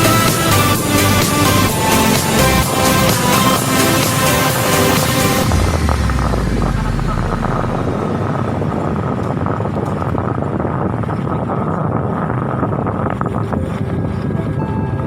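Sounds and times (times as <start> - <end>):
vehicle moving: 0.0 - 14.6
wind buffeting microphone: 0.0 - 15.0.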